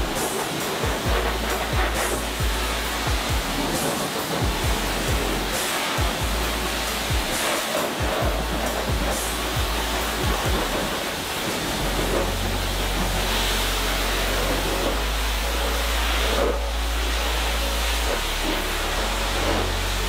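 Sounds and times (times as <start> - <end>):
pressure washer spray hissing: 0.0 - 20.0
pump humming: 0.0 - 20.0.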